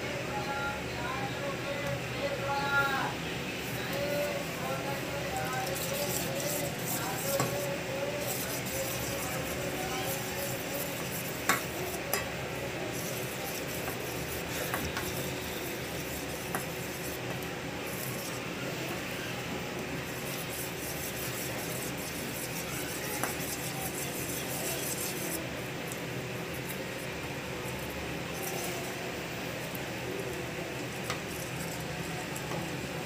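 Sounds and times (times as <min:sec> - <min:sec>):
spoon stirring batter: 0:03.6 - 0:33.0.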